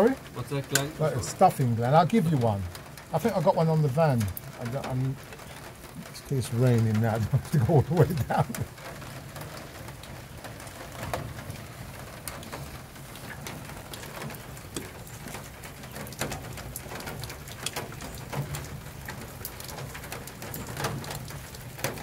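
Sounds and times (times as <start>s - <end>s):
drips: 0.0s - 22.0s
light rain falling: 0.0s - 22.0s.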